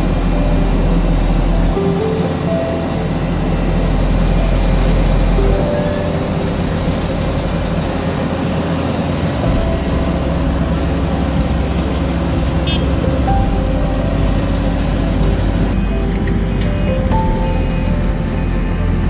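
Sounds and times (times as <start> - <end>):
asphalt paver diesel engine rumble: 0.0 - 19.0.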